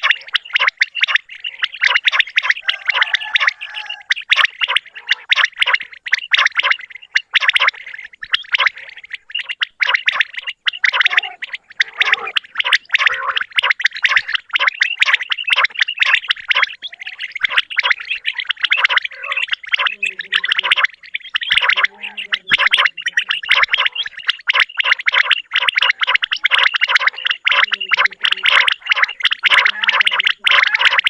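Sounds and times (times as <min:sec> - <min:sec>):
quails calling: 0:00.0 - 0:31.0.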